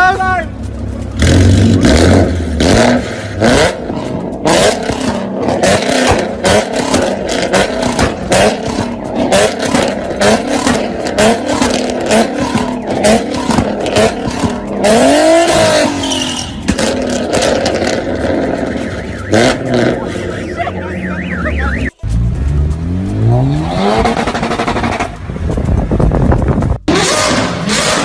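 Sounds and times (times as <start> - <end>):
loud car exhaust revving: 0.0 - 28.0.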